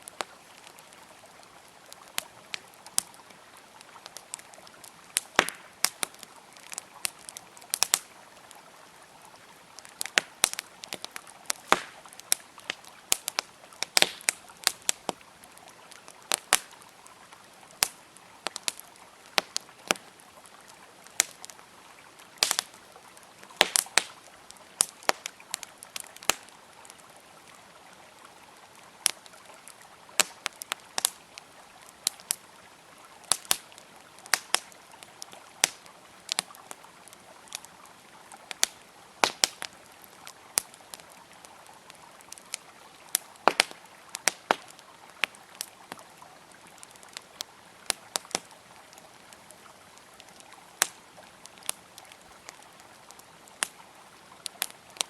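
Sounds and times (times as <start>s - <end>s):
campfire crackling and popping: 0.0s - 55.0s
flowing river water: 0.0s - 55.0s.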